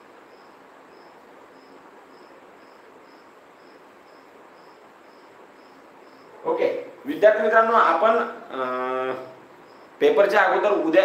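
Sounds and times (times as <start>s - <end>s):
cricket chirping: 0.0s - 11.0s
steady low hiss: 0.0s - 11.0s.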